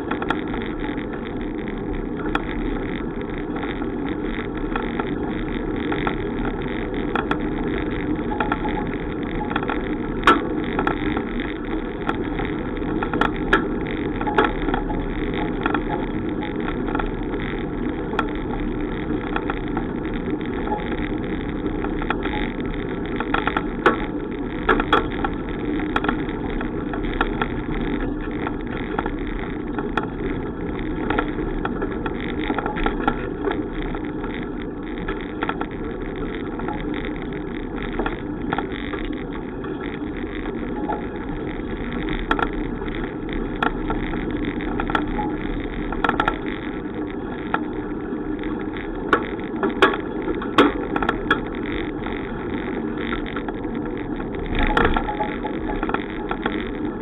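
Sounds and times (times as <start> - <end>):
bicycle rolling: 0.0 - 57.0
sharp clicks and knocks: 0.0 - 57.0.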